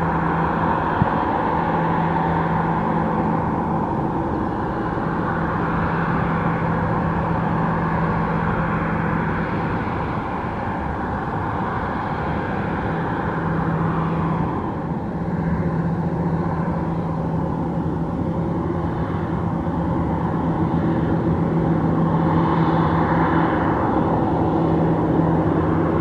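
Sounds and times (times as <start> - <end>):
jet engines idling: 0.0 - 26.0.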